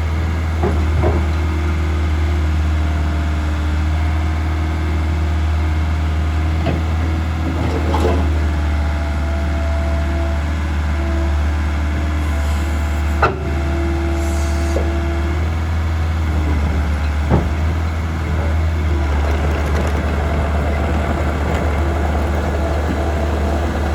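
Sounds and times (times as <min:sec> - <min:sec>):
diesel engine rumbling: 0:00.0 - 0:23.9.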